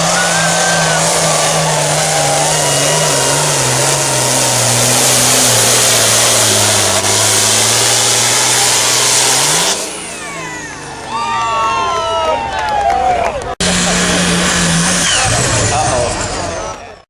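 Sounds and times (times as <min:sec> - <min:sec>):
tractor engine at full throttle: 0:00.0 - 0:17.0.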